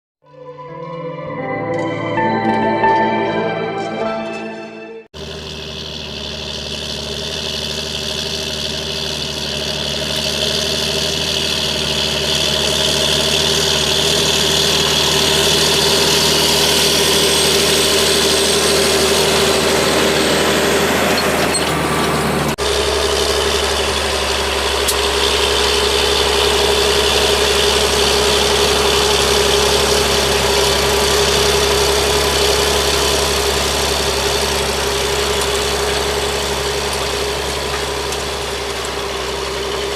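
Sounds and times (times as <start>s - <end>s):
tractor diesel engine running: 5.2s - 39.9s.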